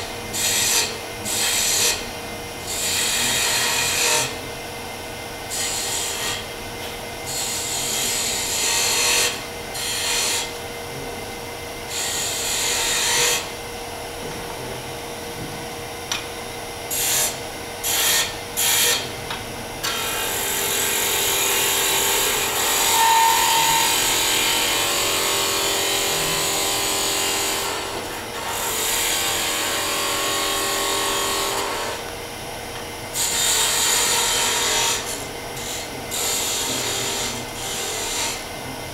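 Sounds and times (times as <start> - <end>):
lathe motor humming: 7.1 - 38.9.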